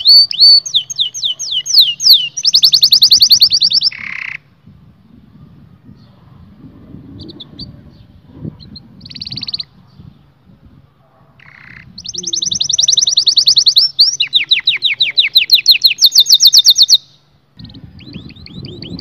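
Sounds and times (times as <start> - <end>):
canary singing trills: 0.0 - 4.5, 5.4 - 10.4, 11.0 - 19.0.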